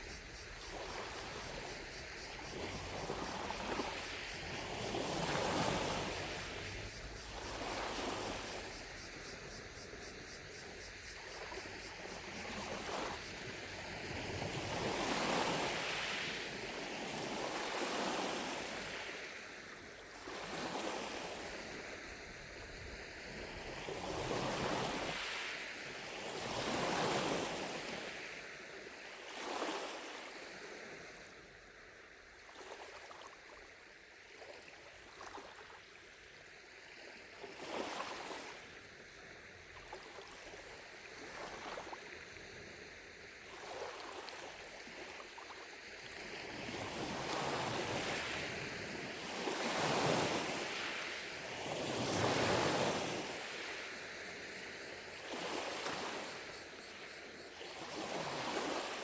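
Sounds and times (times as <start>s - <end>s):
lake waves lapping at shore: 0.0s - 59.0s.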